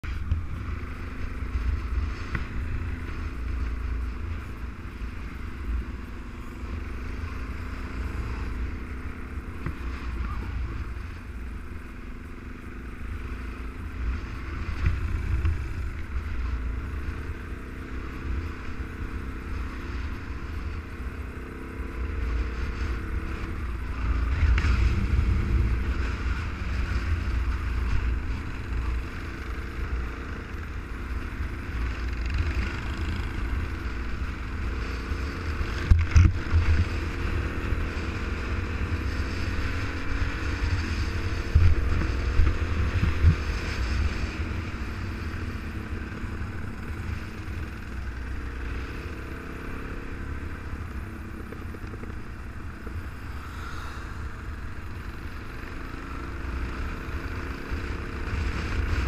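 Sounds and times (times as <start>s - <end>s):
motorcycle engine running: 0.0s - 59.0s
wind rumble on microphone: 0.0s - 59.0s.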